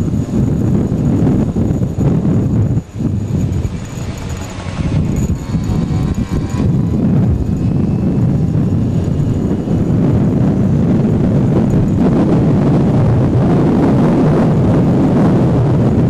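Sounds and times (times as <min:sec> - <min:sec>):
moped engine running: 0:00.0 - 0:16.0
wind noise on microphone: 0:00.0 - 0:16.0.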